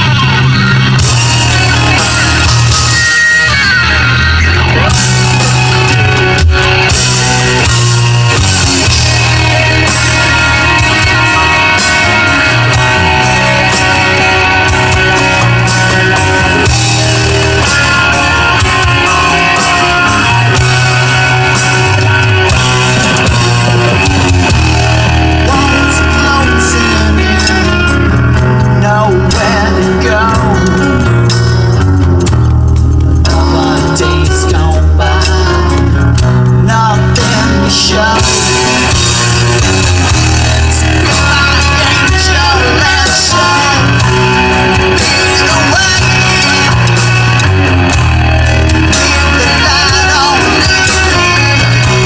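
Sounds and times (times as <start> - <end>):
hard rock with electric guitar: 0.0 - 52.0.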